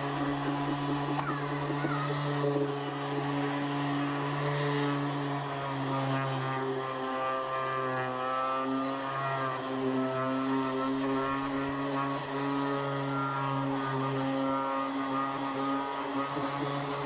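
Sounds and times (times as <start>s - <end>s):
small motor humming: 0.0s - 17.0s.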